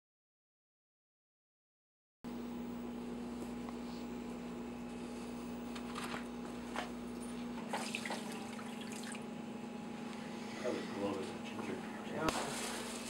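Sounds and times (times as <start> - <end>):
steady low hum: 2.3 - 13.0.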